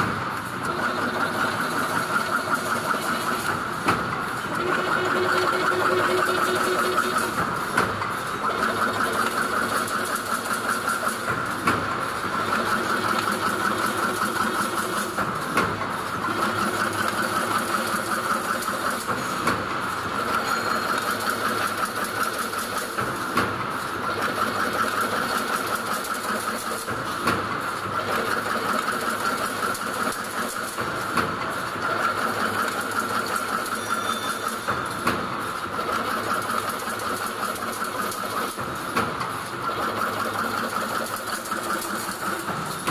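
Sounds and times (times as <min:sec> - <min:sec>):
sharp machine knock: 0:00.0 - 0:23.7, 0:32.1 - 0:42.9
fence machine mechanical clatter: 0:00.0 - 0:42.9.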